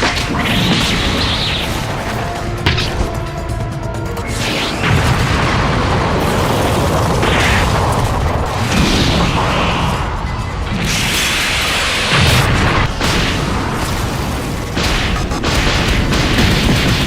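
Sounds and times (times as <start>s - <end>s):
blasts: 0.0s - 17.0s
booming impacts: 0.0s - 17.0s.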